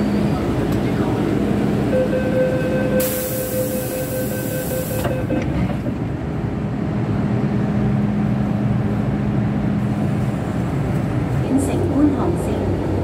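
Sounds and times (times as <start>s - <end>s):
subway train rumble and hum: 0.0s - 13.0s.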